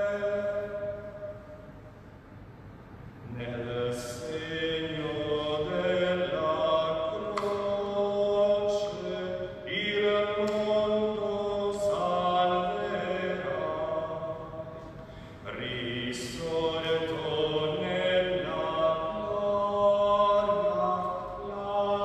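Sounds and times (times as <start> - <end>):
man chanting: 0.0 - 1.6, 3.2 - 22.0.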